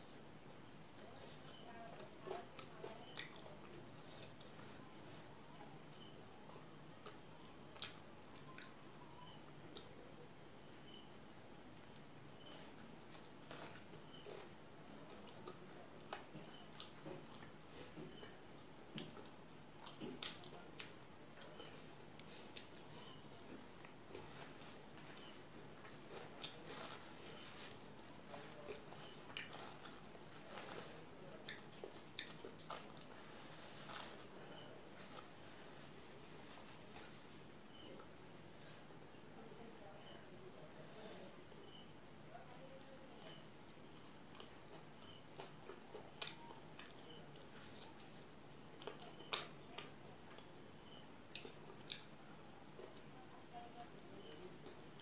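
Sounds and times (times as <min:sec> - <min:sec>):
chewing: 0:00.5 - 0:05.3, 0:05.9 - 0:10.1, 0:10.7 - 0:38.9, 0:42.4 - 0:55.0.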